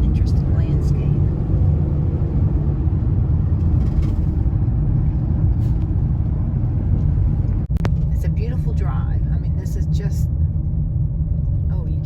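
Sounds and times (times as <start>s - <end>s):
van engine and tyre noise: 0.0s - 12.0s.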